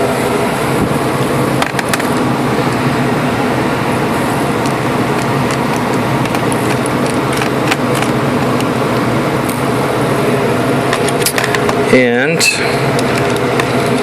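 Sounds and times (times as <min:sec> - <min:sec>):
machine drone with low hum: 0:00.0 - 0:14.0.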